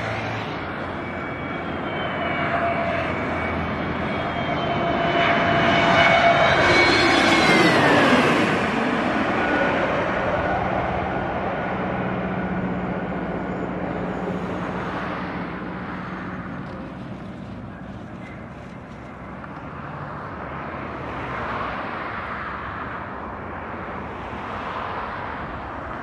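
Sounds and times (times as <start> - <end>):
jet airliner landing: 0.0 - 26.0.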